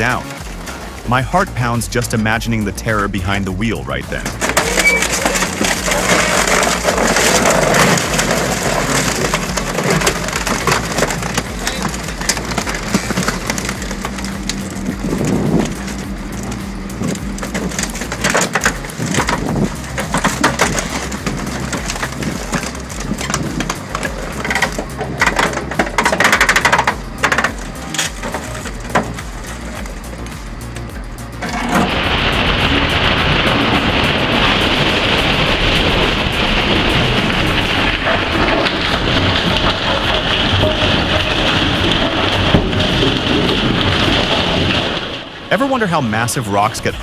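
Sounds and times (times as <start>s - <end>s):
machine low hum: 0.0s - 45.4s
car crunching and cracking: 3.2s - 45.5s.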